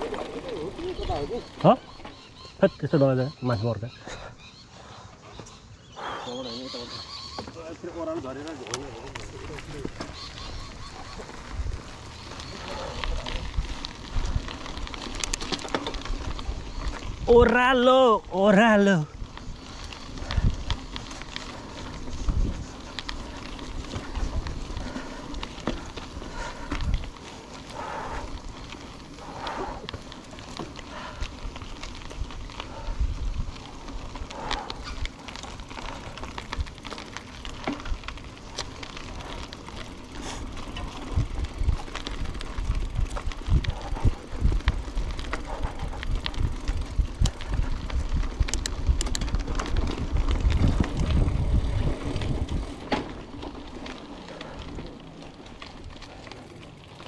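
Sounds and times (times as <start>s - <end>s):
bike rumbling on rough trail: 0.0s - 57.0s
bike rattling clicks and knocks: 7.2s - 57.0s.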